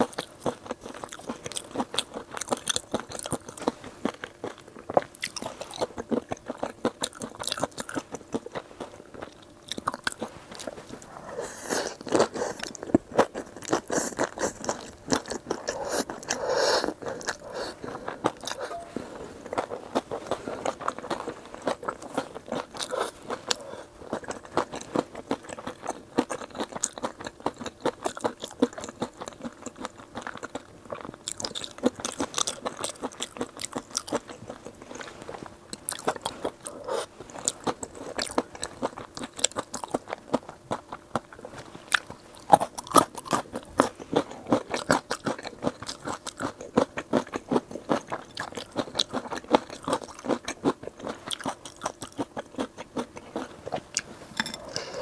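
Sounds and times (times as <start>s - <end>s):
crisp food crunching: 0.0s - 11.2s, 11.8s - 55.0s
wet chewing: 0.0s - 55.0s.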